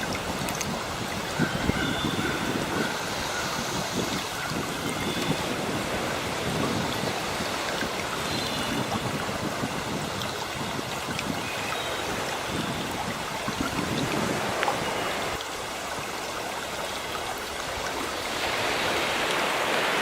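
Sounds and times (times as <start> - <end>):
sea water washing: 0.0 - 20.0.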